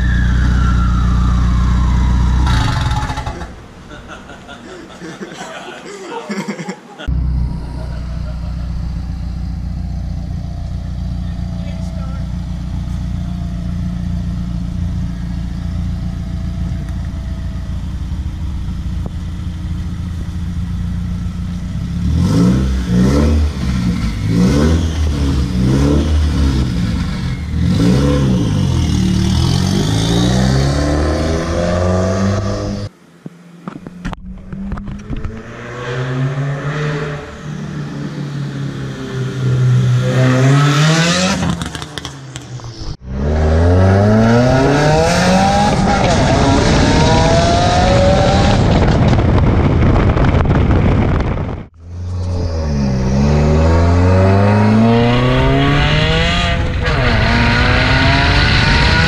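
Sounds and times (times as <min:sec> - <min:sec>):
car engine idling and revving: 0:00.0 - 0:03.9, 0:07.0 - 0:59.0.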